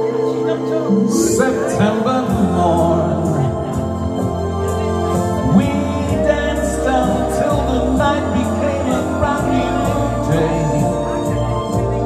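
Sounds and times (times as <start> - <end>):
backing track with low bass: 0.0 - 12.0
man singing into a microphone: 0.1 - 12.0.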